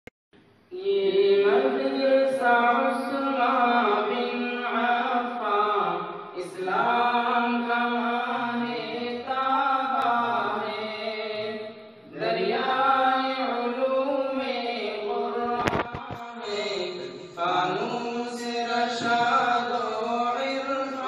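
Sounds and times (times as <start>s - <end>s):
person chanting: 0.7s - 21.0s.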